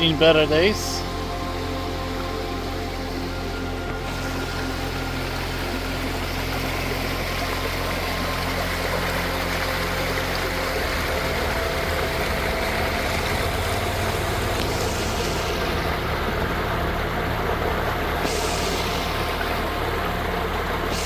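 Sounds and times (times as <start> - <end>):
fast-flowing river water rushing: 0.0 - 21.0.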